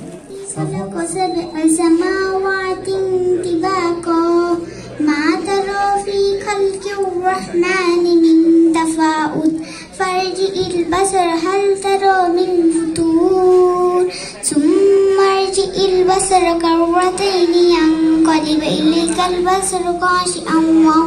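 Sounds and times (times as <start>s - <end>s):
girl singing into a microphone: 0.3s - 21.0s.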